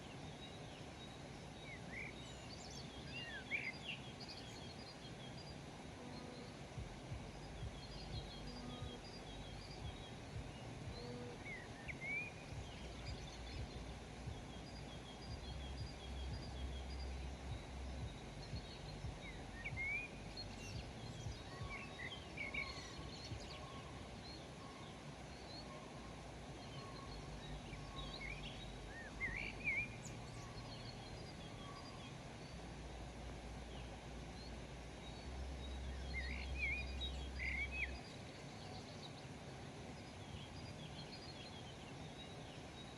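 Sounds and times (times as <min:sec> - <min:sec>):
low background rumble: 0:00.0 - 0:42.9
small birds chirping: 0:00.0 - 0:42.9.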